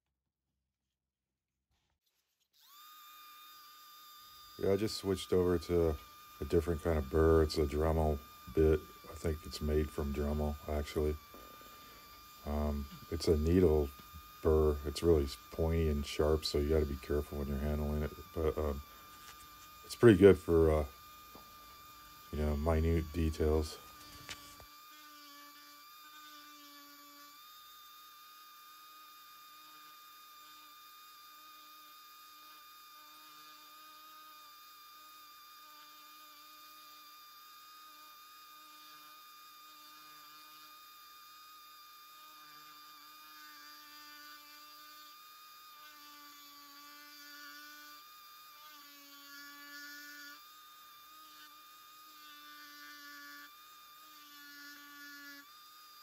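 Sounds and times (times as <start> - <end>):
rotary tool carving wood: 1.8 - 56.0.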